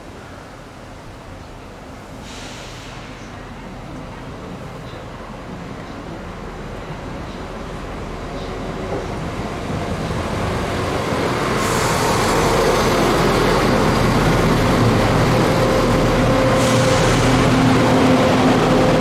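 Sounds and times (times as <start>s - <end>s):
diesel train engine drone: 2.8s - 19.0s
train wheel noise: 2.9s - 19.0s.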